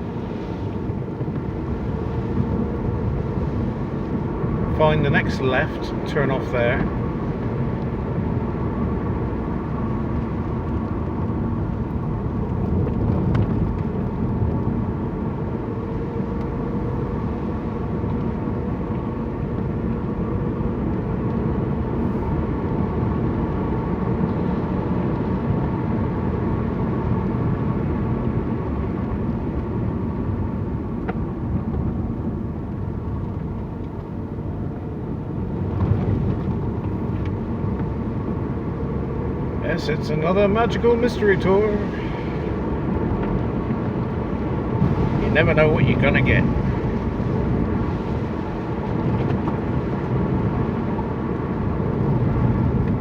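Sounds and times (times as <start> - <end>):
car engine hum: 0.0 - 53.0.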